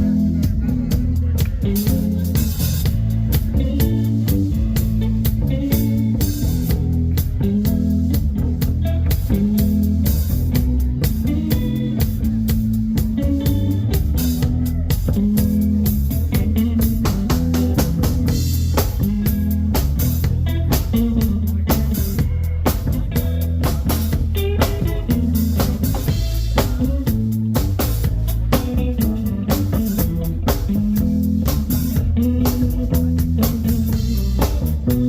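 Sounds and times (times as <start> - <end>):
bass guitar: 0.0 - 35.0
drum kit beat: 0.0 - 35.0
guitar: 0.0 - 35.0.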